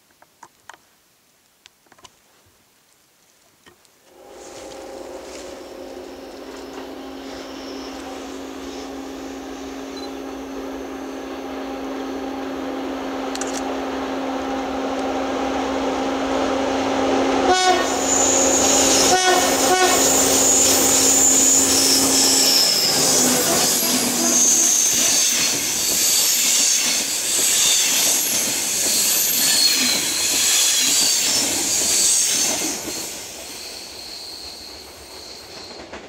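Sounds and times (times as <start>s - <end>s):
locomotive hum: 4.1s - 36.0s
train wheels on rails: 4.1s - 36.0s.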